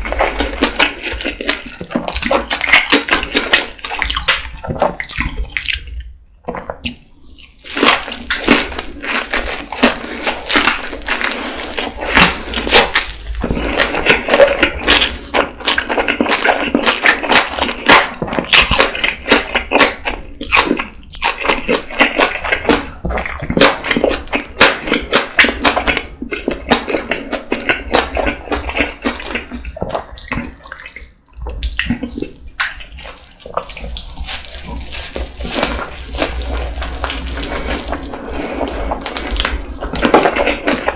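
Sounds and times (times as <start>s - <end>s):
close-miked wet chewing: 0.0s - 40.9s.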